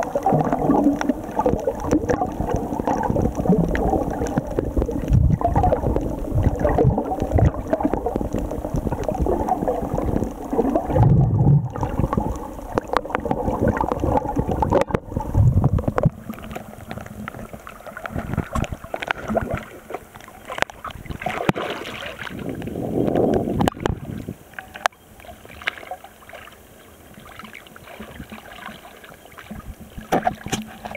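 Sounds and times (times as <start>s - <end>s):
clicks and splashes: 0.0s - 26.6s, 27.2s - 30.9s
small waves sloshing: 0.0s - 30.9s
underwater rushing and gurgling: 0.0s - 30.9s.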